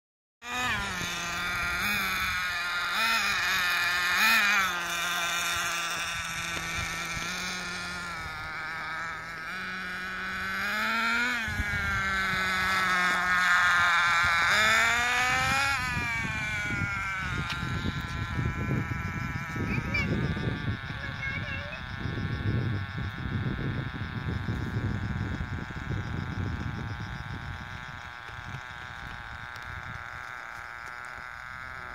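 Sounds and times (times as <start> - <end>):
model car engine whining: 0.4 - 31.9.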